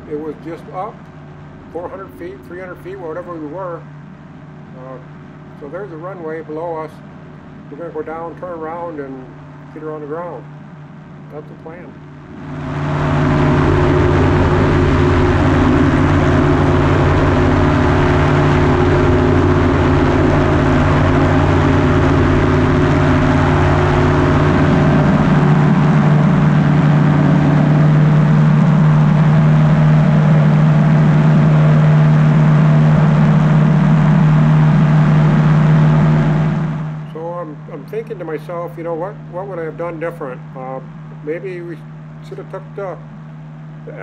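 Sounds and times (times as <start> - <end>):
engine and propeller running: 0.0 - 44.0.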